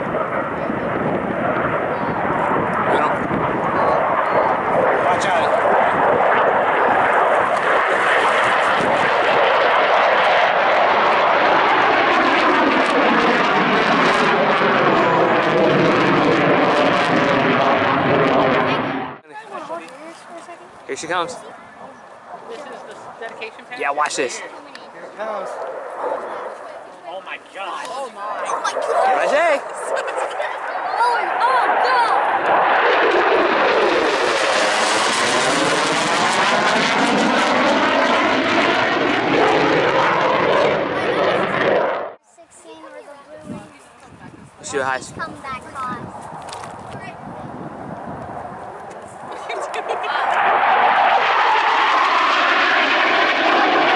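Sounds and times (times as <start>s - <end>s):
jet engine roar: 0.0s - 53.9s.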